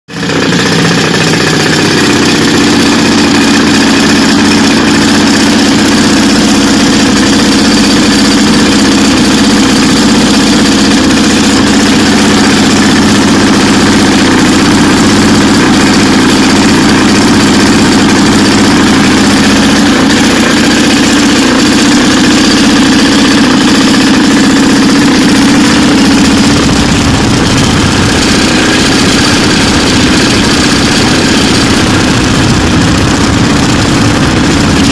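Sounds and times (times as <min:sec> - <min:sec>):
propeller engine running loudly: 0:00.0 - 0:34.9.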